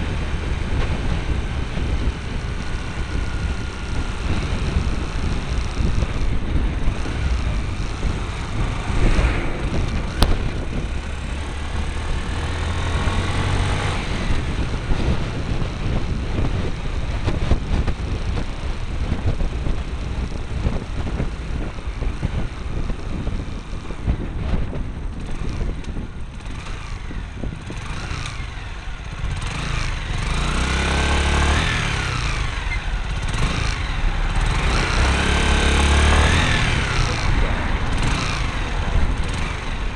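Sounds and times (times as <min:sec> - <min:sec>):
heavy wind noise: 0:00.0 - 0:39.9
motorcycle engine running: 0:00.0 - 0:39.9
road noise: 0:00.0 - 0:39.9.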